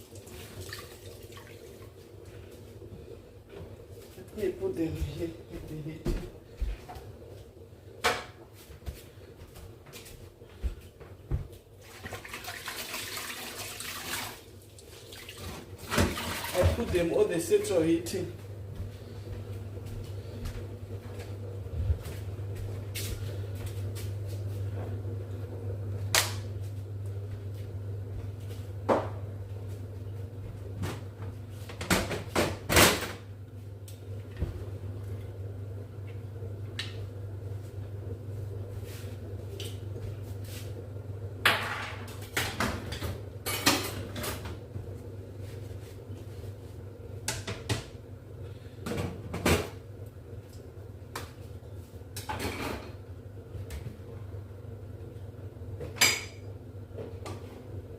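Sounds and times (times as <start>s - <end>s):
steady low hum: 0.0s - 11.9s, 14.5s - 57.9s.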